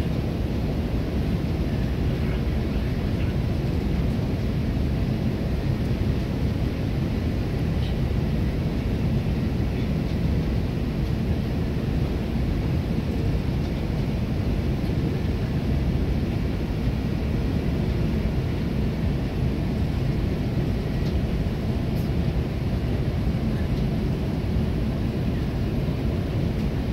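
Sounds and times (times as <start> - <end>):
airplane cabin rumble: 0.0 - 26.9.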